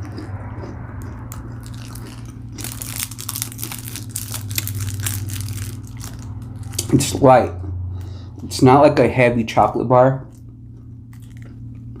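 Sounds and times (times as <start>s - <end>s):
chewing and crunching chocolate bar: 0.0s - 8.6s, 10.2s - 12.0s
low hum: 0.0s - 12.0s.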